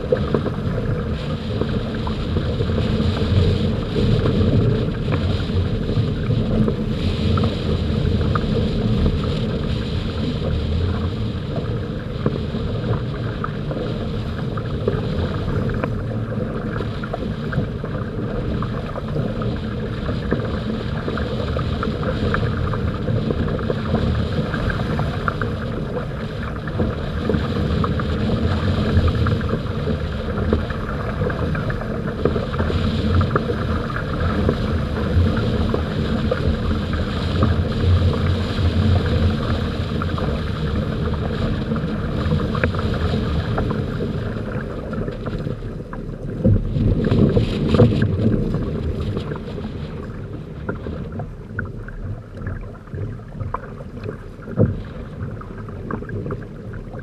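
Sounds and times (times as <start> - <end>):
water rushing along hulls: 0.0 - 57.0
wind buffeting microphone: 0.0 - 57.0.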